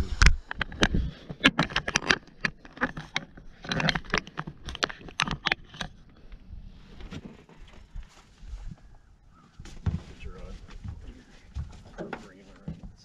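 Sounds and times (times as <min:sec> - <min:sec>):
knocks and scrapes in boat: 0:00.4 - 0:13.0.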